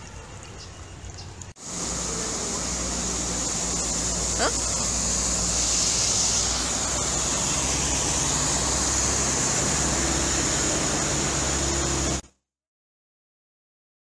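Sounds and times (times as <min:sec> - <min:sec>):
vehicle engines running: 0:00.0 - 0:12.2
water spraying from wheels: 0:00.0 - 0:12.2.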